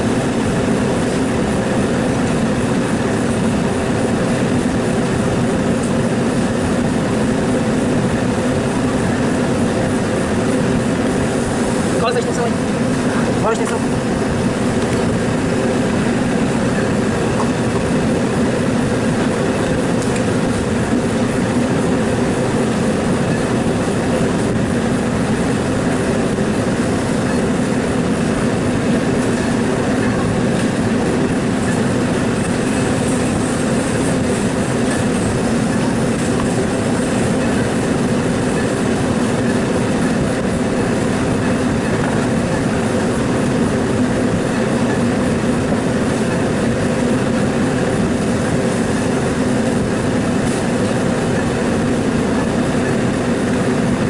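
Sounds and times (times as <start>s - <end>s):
loud mechanical rumble and hiss: 0.0s - 54.0s.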